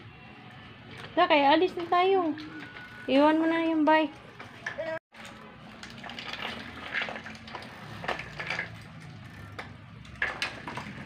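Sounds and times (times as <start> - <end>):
bicycle rolling over concrete: 0.9 - 11.0
wheels and frame rattling: 0.9 - 11.0.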